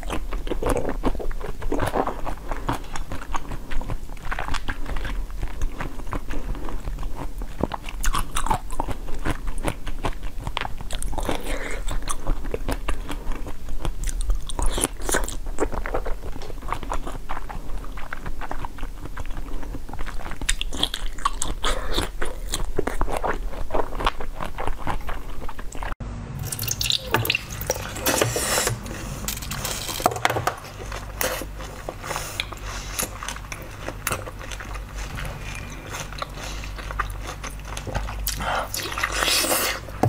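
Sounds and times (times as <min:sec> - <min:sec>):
squishy chewing of jelly: 0:00.0 - 0:40.0.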